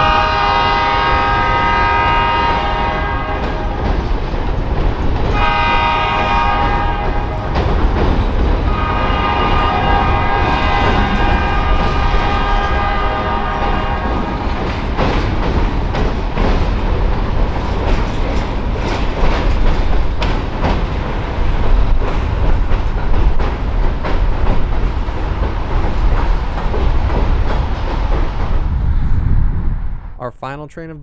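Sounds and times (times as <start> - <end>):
wheels clacking on rail joints: 0.0 - 28.8
freight train rumbling over bridge: 0.0 - 31.0.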